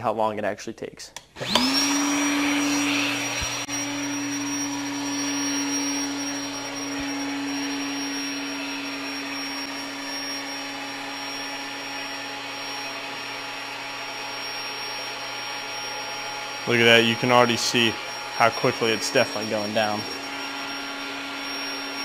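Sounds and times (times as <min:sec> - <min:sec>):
electric air pump whirring: 0:01.4 - 0:22.0.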